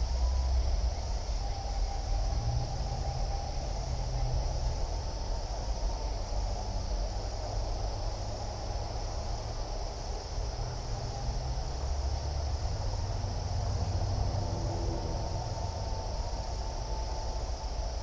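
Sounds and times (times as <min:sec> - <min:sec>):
insect chorus trilling: 0:00.0 - 0:18.0
low outdoor rumble: 0:00.0 - 0:18.0.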